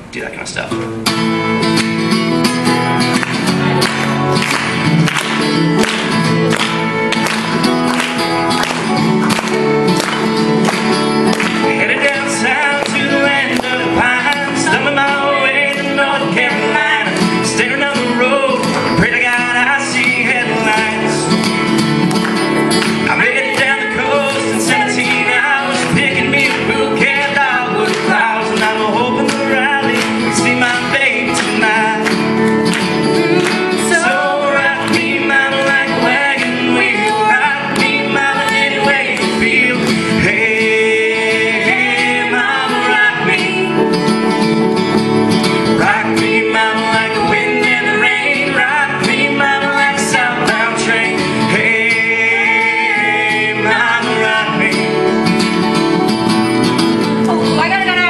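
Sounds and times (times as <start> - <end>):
guitars strumming: 0.0 - 58.0
male and female voices singing: 3.2 - 44.4, 45.6 - 55.8, 57.1 - 58.0.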